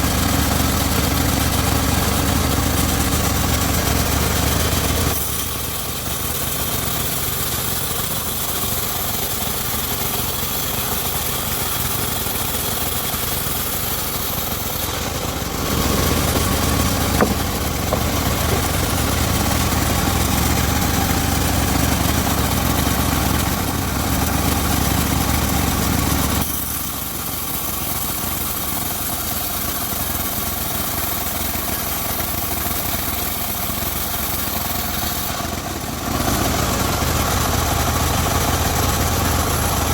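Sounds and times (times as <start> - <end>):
circular saw running: 0.0 - 39.9.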